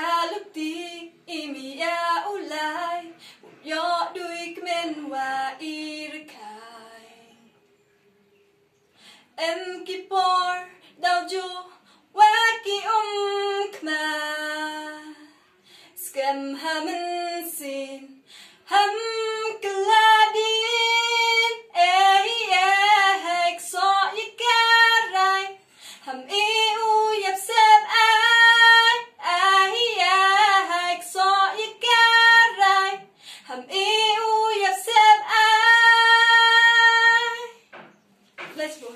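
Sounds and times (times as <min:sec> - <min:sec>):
woman singing unaccompanied: 0:00.0 - 0:07.5, 0:09.4 - 0:15.4, 0:16.0 - 0:37.6, 0:38.5 - 0:38.9.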